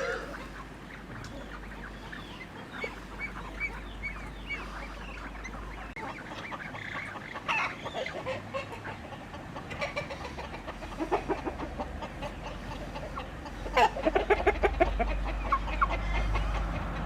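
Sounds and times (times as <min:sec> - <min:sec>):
chicken squawk: 0:00.0 - 0:17.0
chickens clucking: 0:00.0 - 0:17.0.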